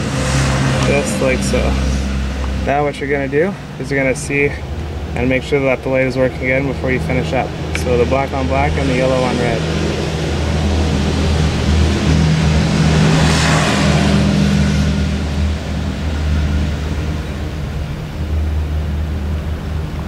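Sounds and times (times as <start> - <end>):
car engine idling: 0.0 - 20.0
rushing noise: 0.0 - 20.0.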